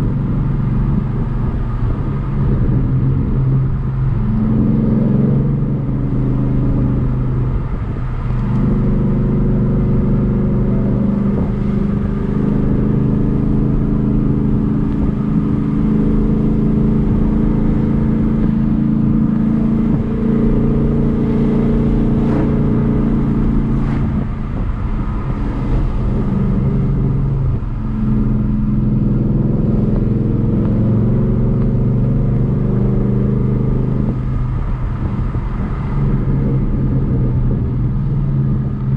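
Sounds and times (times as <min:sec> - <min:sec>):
car engine and exhaust drone: 0:00.0 - 0:38.9.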